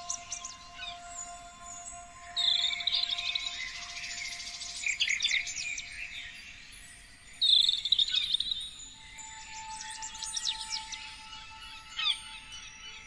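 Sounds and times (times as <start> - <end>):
songbirds singing and chirping: 0.0 - 13.0.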